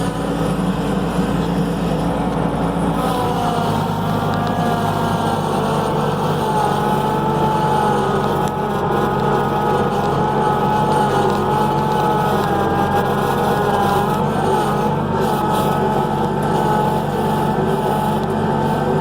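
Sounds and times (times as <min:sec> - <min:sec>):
constant whine: 0:00.0 - 0:19.0
skid steer engine running: 0:00.0 - 0:19.0.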